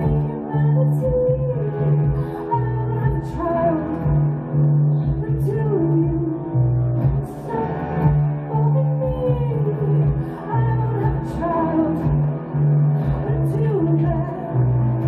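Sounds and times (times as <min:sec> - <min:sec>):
woman singing: 0:00.0 - 0:04.4, 0:05.0 - 0:12.4, 0:13.0 - 0:15.0
bass line: 0:00.0 - 0:15.0
electric guitar: 0:00.0 - 0:15.0.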